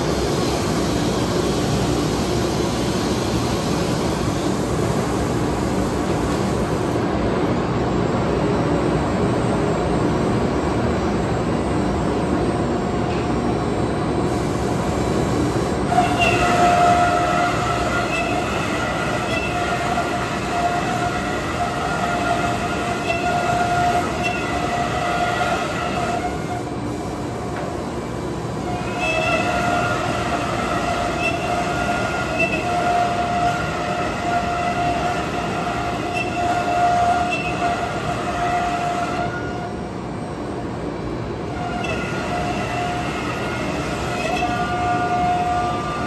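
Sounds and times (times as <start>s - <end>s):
cnc router mechanical roar: 0.0s - 40.2s, 41.0s - 46.0s.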